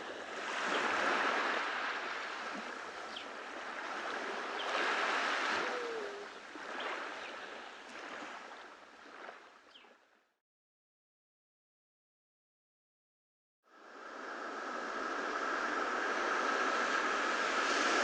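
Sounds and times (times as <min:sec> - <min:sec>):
small ocean waves on beach: 0:00.0 - 0:10.2, 0:13.7 - 0:18.0.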